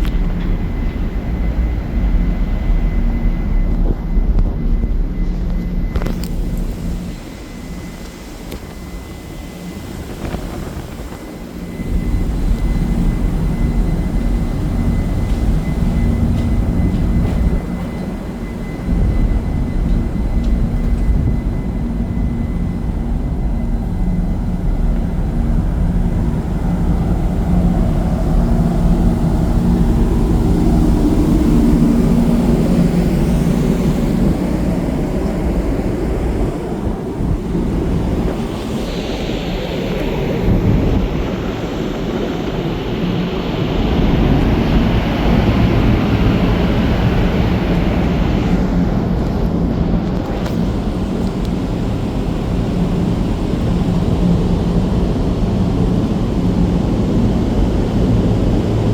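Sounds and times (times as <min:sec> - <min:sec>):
deep rumble: 0:00.0 - 0:58.9
ship engines droning: 0:00.0 - 0:58.9.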